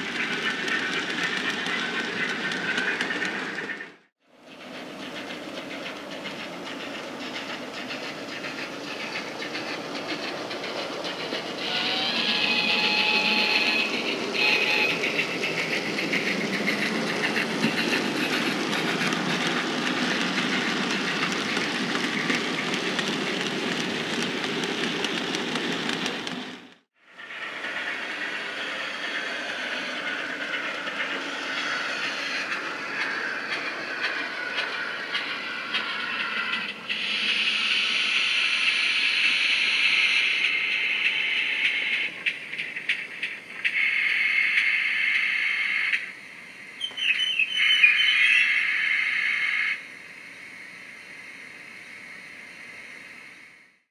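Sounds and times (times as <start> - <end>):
model steam engine chuffing: 0.0 - 3.8, 4.4 - 46.1.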